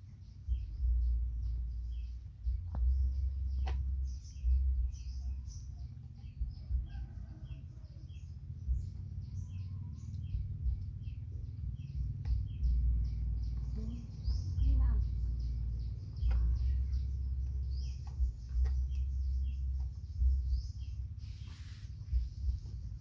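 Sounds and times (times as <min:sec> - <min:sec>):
bird chirping: 0:00.0 - 0:23.0
low uneven rumble: 0:00.0 - 0:23.0.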